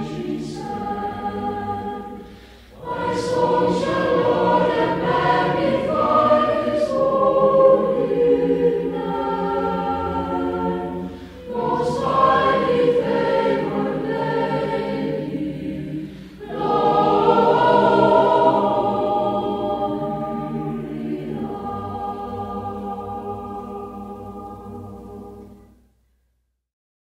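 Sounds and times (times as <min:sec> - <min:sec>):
choir singing held chords: 0:00.0 - 0:25.9.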